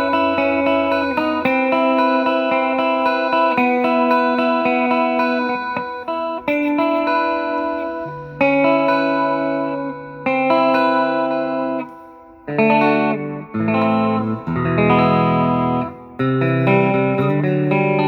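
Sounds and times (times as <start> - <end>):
electric guitar strummed chords: 0.0 - 18.0.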